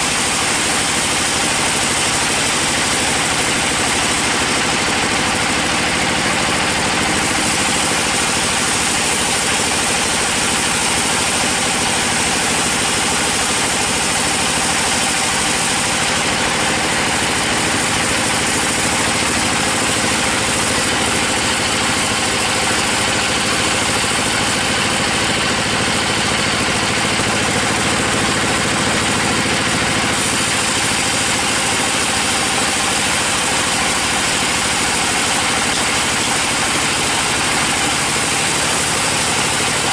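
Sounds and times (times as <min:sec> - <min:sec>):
bandsaw mill drone: 0:00.0 - 0:39.9
saw blade cutting wood: 0:00.0 - 0:39.9.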